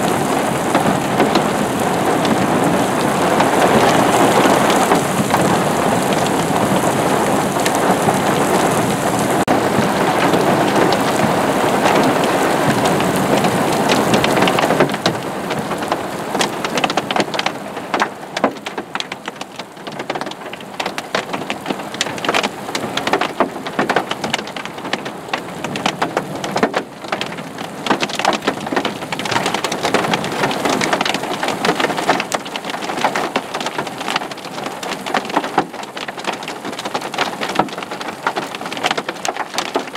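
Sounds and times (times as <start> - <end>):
hail pattering: 0.0 - 39.9
heavy rain pouring: 0.0 - 39.9.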